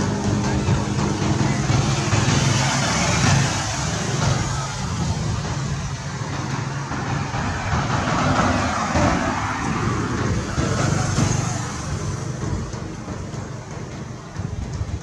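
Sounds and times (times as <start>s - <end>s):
road noise: 0.0s - 15.0s
vehicle engine passing: 0.0s - 15.0s.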